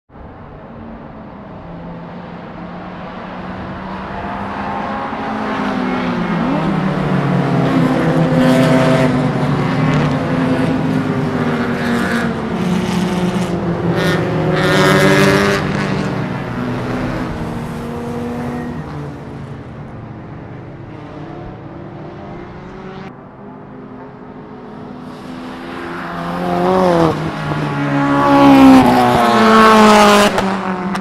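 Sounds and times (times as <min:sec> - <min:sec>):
race car engines passing: 0:00.2 - 0:31.0.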